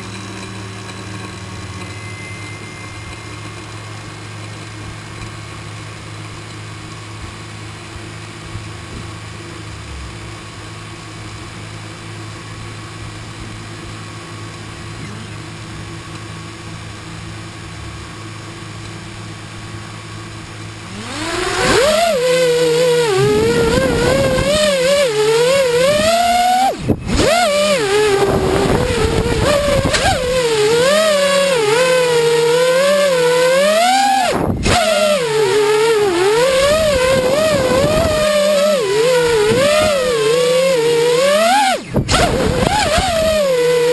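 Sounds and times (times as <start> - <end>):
drone motors humming and whining: 0.0 - 43.9.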